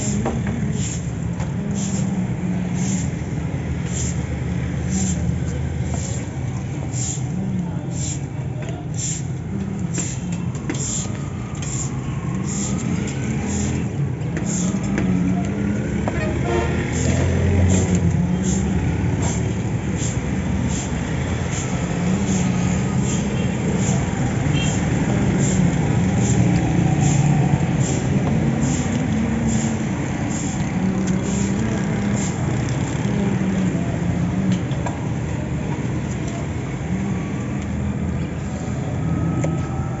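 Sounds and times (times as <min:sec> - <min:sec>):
low rumble of road traffic: 0:00.0 - 0:40.0.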